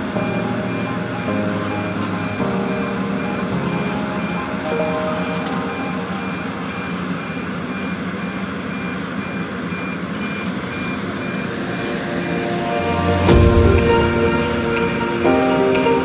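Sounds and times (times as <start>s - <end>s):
reversing alarm beeps: 0.0s - 15.1s.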